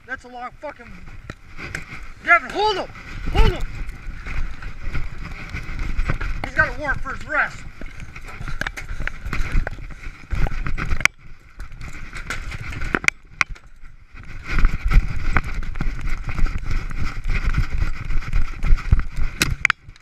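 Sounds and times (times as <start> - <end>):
running footsteps: 0.0 - 20.0
camera knocking and rubbing: 0.9 - 20.0.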